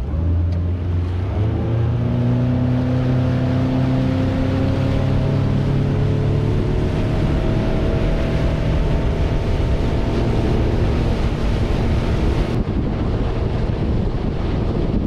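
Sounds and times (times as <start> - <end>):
outboard motor running: 0.0 - 15.0
water rushing from wake: 0.0 - 15.0
wind buffeting microphone: 0.6 - 15.0.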